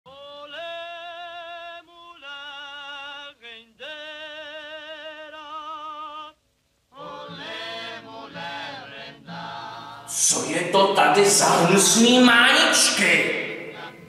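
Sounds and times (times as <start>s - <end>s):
person singing with vibrato: 0.1s - 14.0s.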